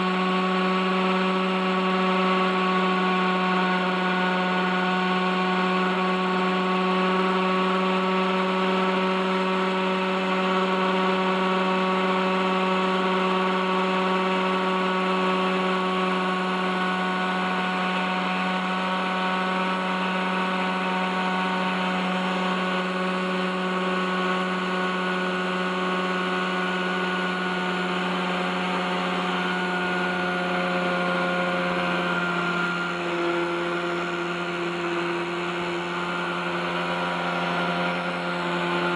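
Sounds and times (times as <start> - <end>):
model helicopter engine running: 0.0 - 38.9.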